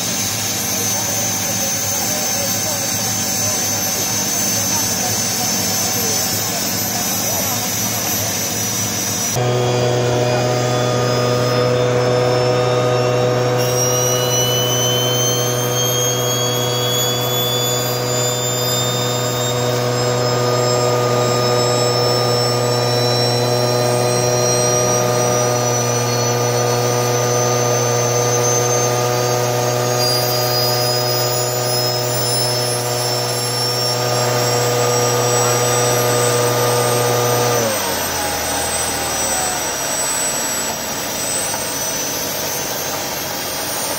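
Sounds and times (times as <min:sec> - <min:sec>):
loud droning hum: 0:00.0 - 0:43.9
turbocharger whine: 0:00.0 - 0:43.9.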